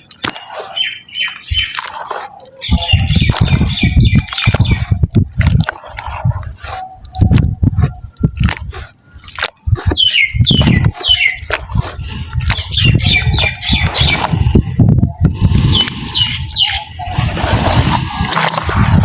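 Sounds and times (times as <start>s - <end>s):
birds chirping: 0.0s - 18.1s
wet mud crunching and thudding: 0.0s - 19.0s.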